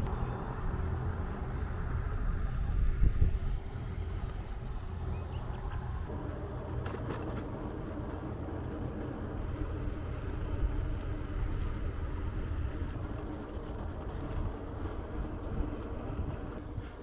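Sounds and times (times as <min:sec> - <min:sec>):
bicycle road and wind noise: 0:00.0 - 0:17.0.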